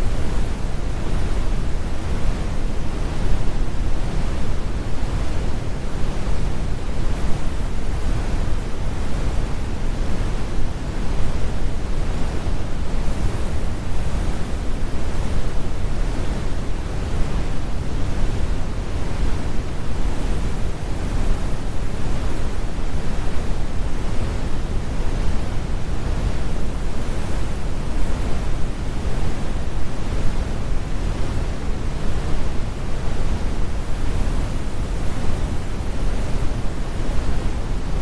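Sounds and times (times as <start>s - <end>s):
brown noise rumble: 0.0s - 38.0s.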